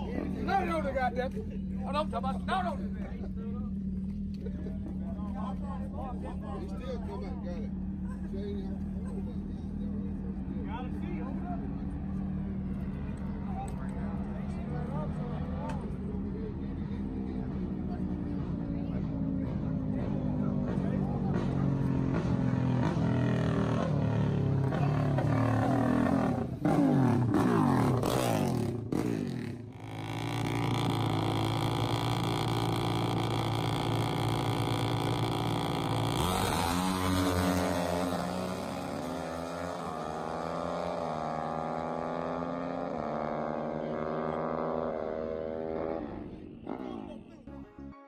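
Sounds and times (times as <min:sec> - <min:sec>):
dirt bikes revving and shifting gears: 0:00.0 - 0:47.6
motorcycles accelerating hard: 0:07.7 - 0:47.5.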